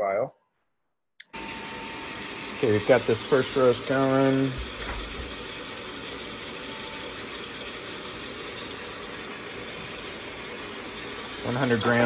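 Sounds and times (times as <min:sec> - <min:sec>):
coffee roaster fan hissing: 0:01.2 - 0:12.0.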